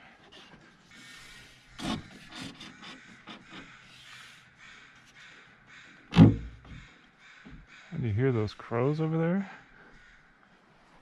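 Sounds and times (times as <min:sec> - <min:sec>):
crows cawing: 0:00.8 - 0:10.7.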